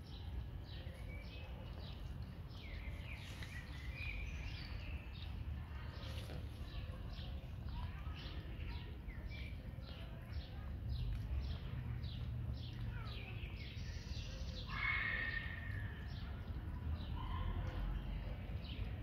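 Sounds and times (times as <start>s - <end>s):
cat lapping water: 0.0s - 19.0s.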